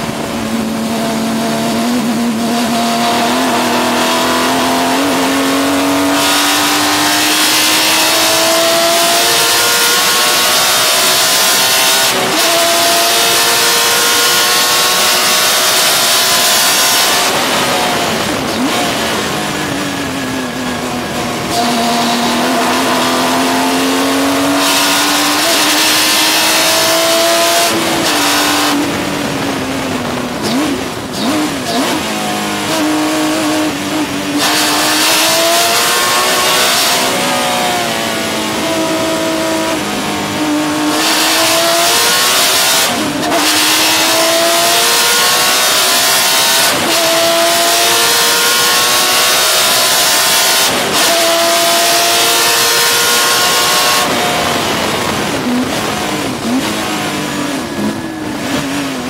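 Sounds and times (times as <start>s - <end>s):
race car engine with upshifts: 0.0s - 59.0s.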